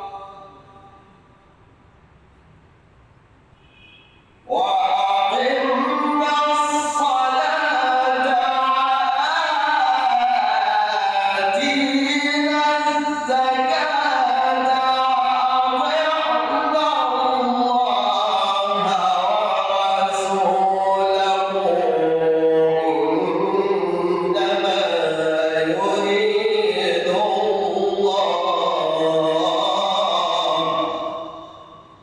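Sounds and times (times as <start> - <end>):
man reciting melodically: 0.0 - 1.1, 4.4 - 32.0.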